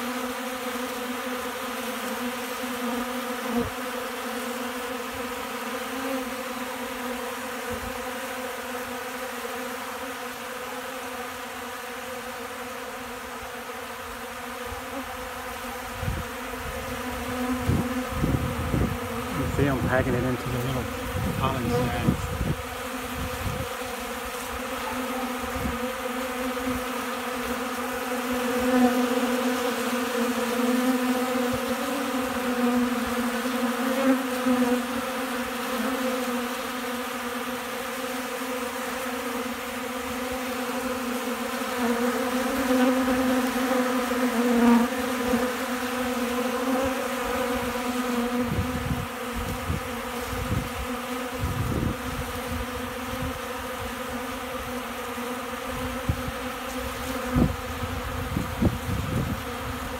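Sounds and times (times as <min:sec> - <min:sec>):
honey bees buzzing: 0:00.0 - 0:59.9.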